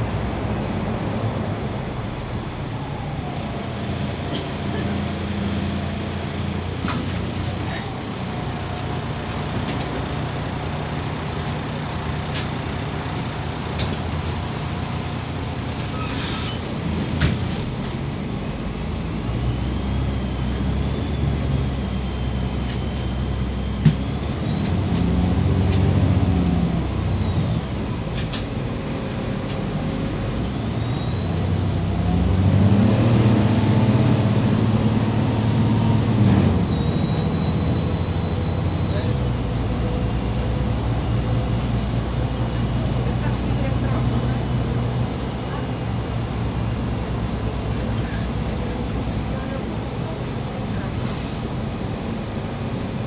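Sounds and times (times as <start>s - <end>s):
bus engine running: 0.0s - 53.0s.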